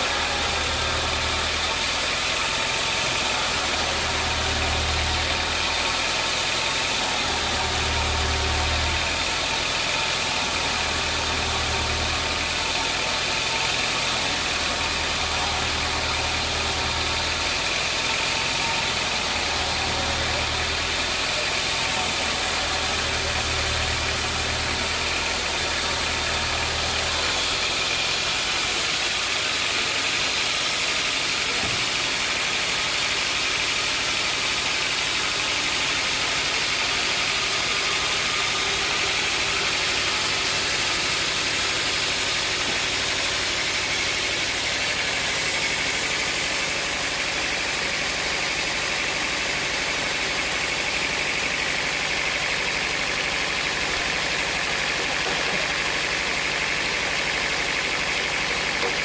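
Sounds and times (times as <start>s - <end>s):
sawmill machinery whine: 0.0s - 59.0s.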